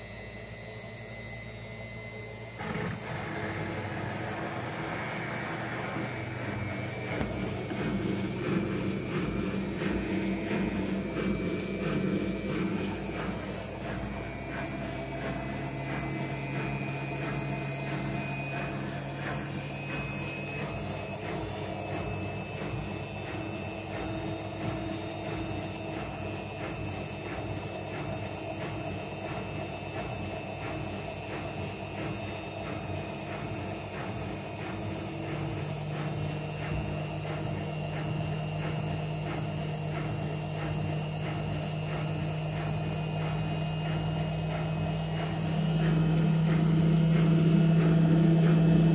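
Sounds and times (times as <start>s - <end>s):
washing machine spinning: 0.0s - 48.9s.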